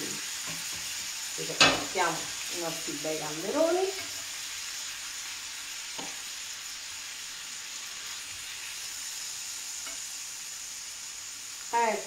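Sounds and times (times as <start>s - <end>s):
pan sizzling: 0.0s - 12.0s.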